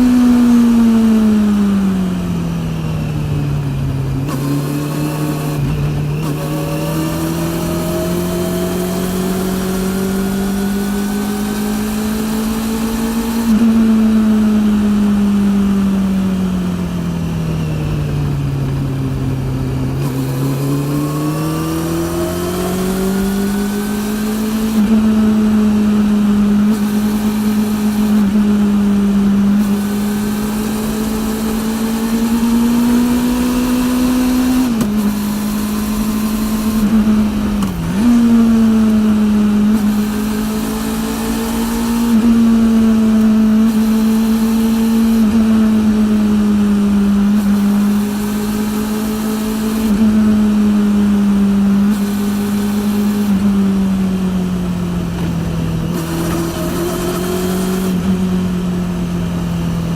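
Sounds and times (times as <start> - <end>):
motorcycle engine on the move: 0.0 - 59.9.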